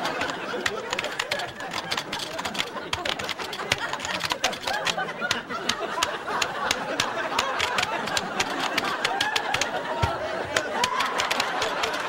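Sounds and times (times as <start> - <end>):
crowd chattering and laughing: 0.0 - 12.0
sharp clicks: 0.0 - 12.0.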